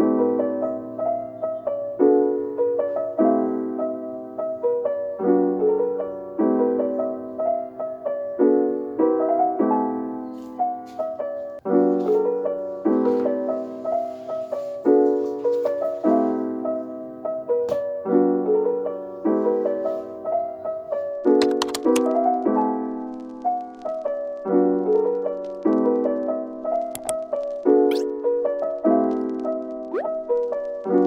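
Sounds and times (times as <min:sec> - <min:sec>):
soft piano chords: 0:00.0 - 0:31.0.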